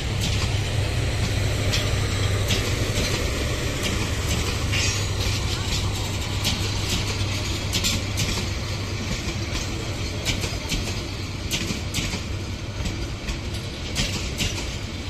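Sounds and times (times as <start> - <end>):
rail clicks: 0.0 - 15.0
train coaches rumbling on rails: 0.0 - 15.0.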